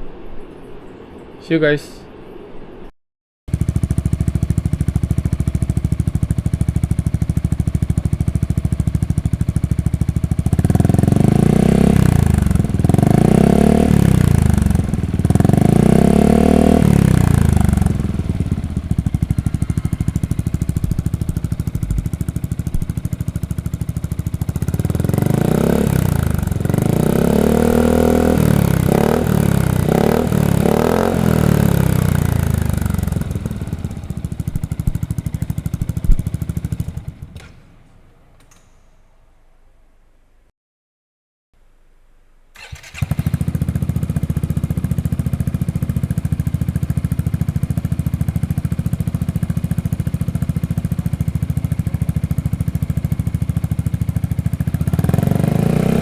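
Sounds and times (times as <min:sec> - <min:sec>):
scooter engine revving: 0:03.5 - 0:37.8, 0:42.6 - 0:56.0
scooter engine idling: 0:03.5 - 0:38.3, 0:42.6 - 0:56.0.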